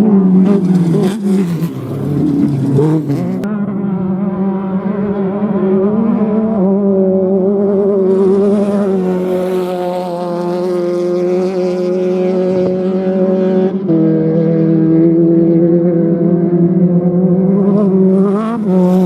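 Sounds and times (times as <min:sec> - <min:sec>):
engine at high revs: 0:00.0 - 0:19.0.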